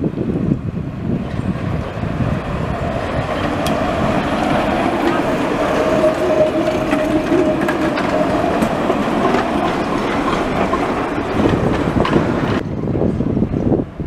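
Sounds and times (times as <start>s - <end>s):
tram rolling past: 0.0s - 14.0s.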